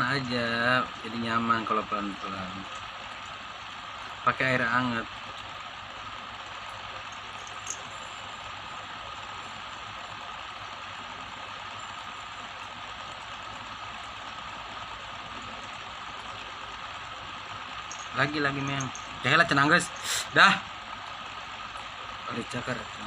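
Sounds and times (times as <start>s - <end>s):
water running: 0.0s - 23.0s.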